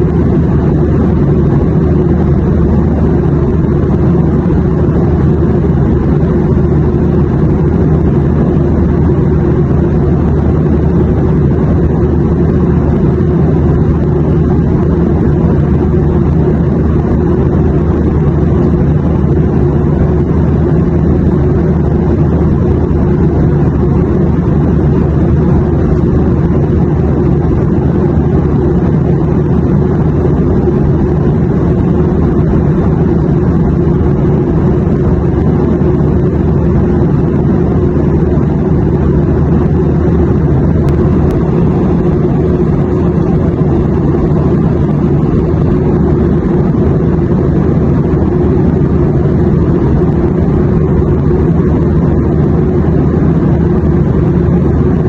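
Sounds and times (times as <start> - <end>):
airplane engine drone: 0.0 - 55.0
deep hum: 0.0 - 55.0.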